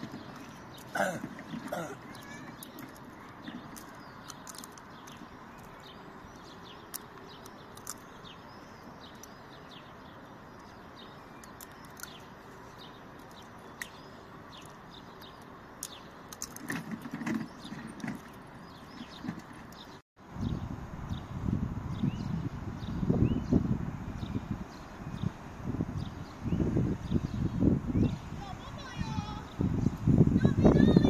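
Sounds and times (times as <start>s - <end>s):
distant city traffic hum: 0.0s - 31.0s
small birds chirping: 0.0s - 31.0s.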